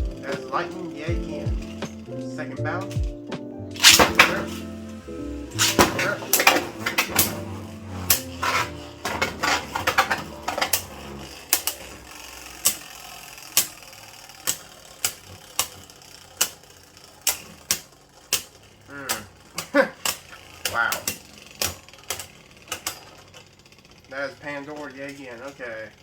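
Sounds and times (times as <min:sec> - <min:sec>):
spinning tops clacking together: 0:00.1 - 0:03.0, 0:03.8 - 0:24.1.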